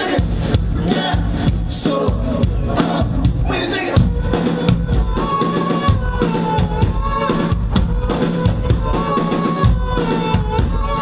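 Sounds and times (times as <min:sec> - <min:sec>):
bass line: 0:00.0 - 0:11.0
indie rock band playing live: 0:00.0 - 0:11.0.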